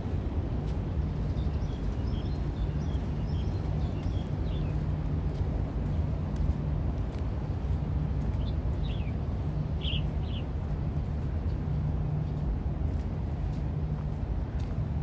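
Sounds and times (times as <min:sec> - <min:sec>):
distant traffic and machinery hum: 0:00.0 - 0:15.0
faint footsteps: 0:00.0 - 0:15.0.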